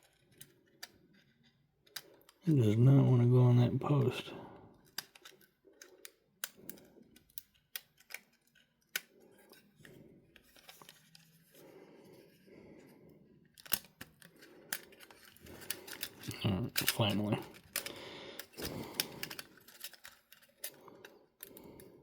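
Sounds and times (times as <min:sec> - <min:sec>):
small parts clicking: 0:00.0 - 0:02.5, 0:04.8 - 0:11.6, 0:13.4 - 0:22.0.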